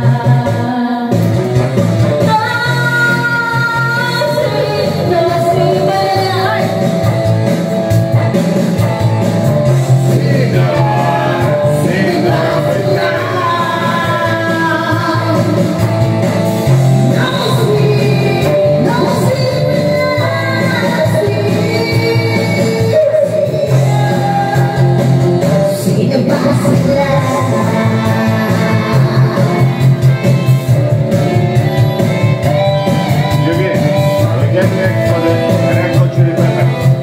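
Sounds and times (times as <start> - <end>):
woman singing karaoke: 0.0 - 7.2, 9.8 - 34.6
recorded backing music: 0.0 - 37.0.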